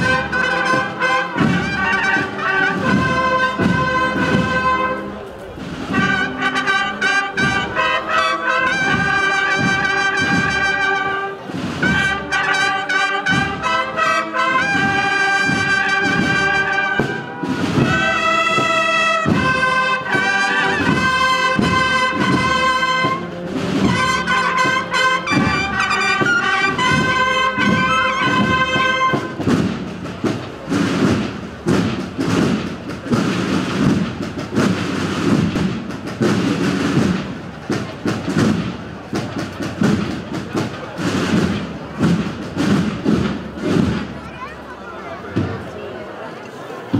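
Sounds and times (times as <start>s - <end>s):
steady drum beat: 0.0s - 44.2s
brass band march: 0.0s - 46.9s.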